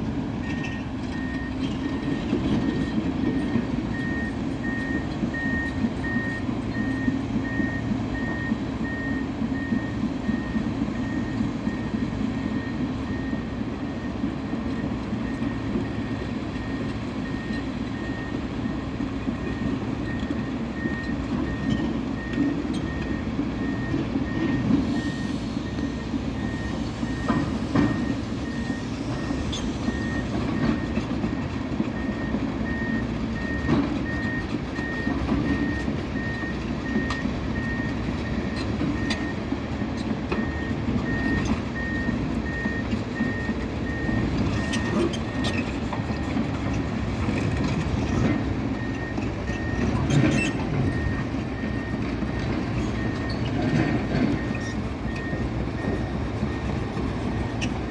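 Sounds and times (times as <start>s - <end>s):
construction machinery engine rumble: 0.0s - 57.9s
reversing alarm beeping: 0.4s - 57.9s.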